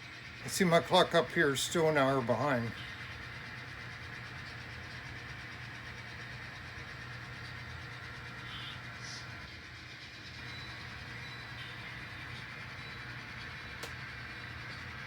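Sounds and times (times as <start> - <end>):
model train humming: 0.0 - 15.0.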